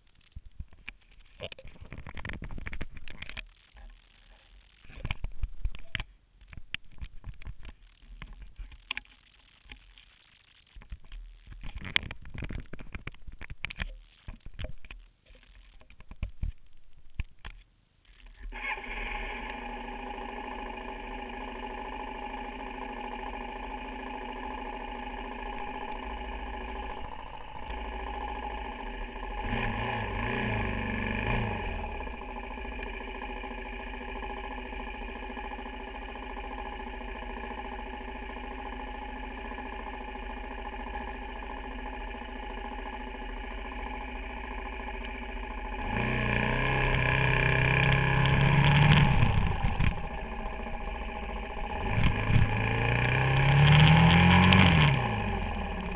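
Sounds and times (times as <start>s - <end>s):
motorcycle engine idling and revving: 0.0s - 9.7s, 18.2s - 55.9s.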